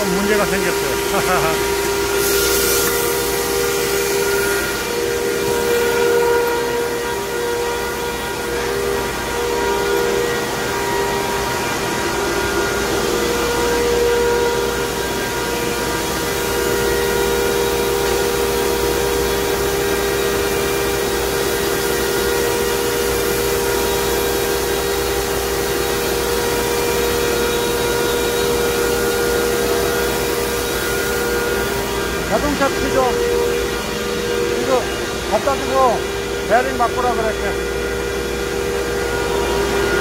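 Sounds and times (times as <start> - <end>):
pelletizing machinery drone: 0.0 - 40.0.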